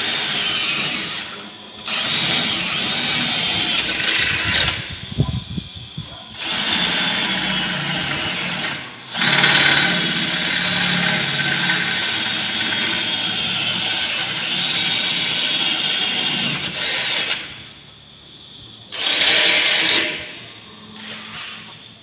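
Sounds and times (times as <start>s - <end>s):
cordless drill drilling into metal: 0.0s - 17.7s, 18.9s - 20.4s.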